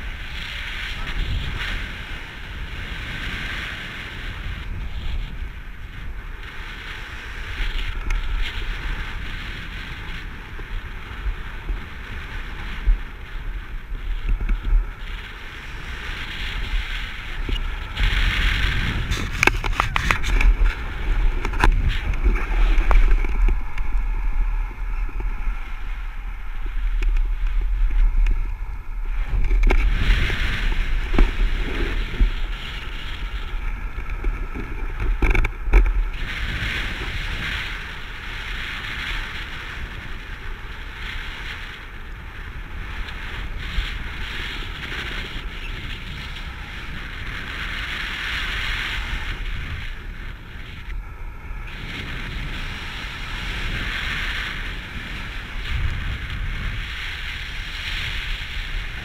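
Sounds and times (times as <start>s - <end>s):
wind buffeting and thumps: 0.0s - 59.0s
wind hiss on microphone: 0.0s - 59.0s.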